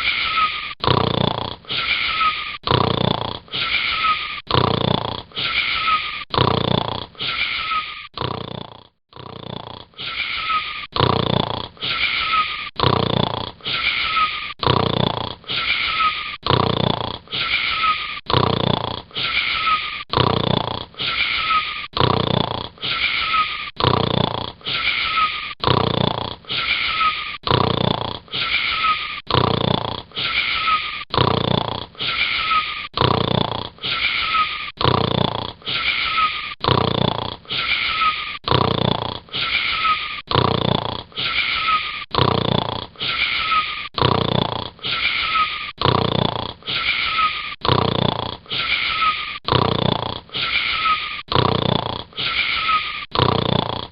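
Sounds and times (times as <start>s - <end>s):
rasping snoring with whistle: 0.0s - 53.9s.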